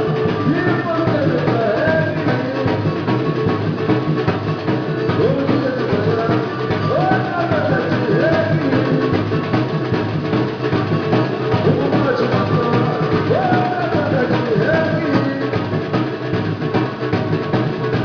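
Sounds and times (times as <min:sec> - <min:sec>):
band music: 0:00.0 - 0:18.0
busy drum beat: 0:00.0 - 0:18.0.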